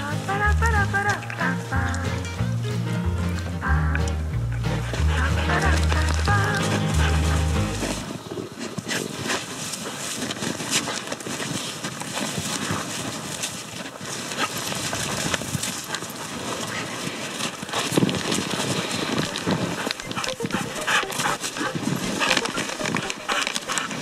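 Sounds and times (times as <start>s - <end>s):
dogs crunching through snow: 4.4s - 24.0s.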